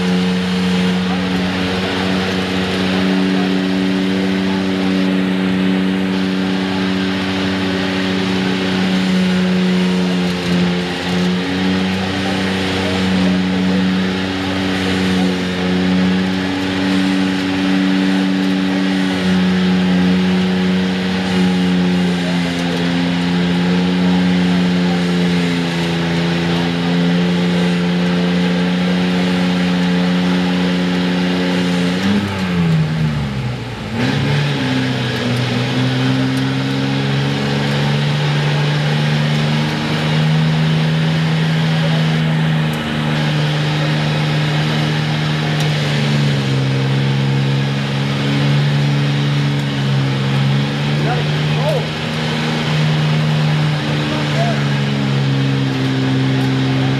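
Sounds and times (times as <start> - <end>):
pickup engine revving: 0.0 - 56.9.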